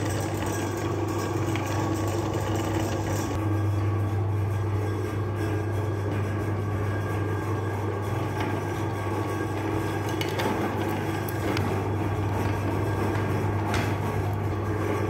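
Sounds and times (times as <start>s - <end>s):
meat grinder motor hum: 0.0s - 3.5s, 5.5s - 15.0s.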